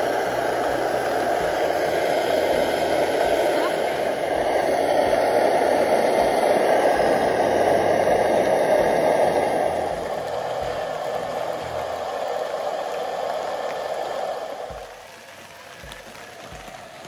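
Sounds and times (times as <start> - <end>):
camp stove burning: 0.0 - 17.0
rain hissing: 0.0 - 17.0.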